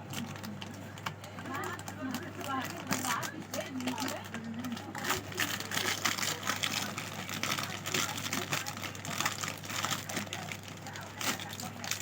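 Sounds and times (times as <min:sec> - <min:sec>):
plastic snack packets crinkling: 0:00.0 - 0:12.0.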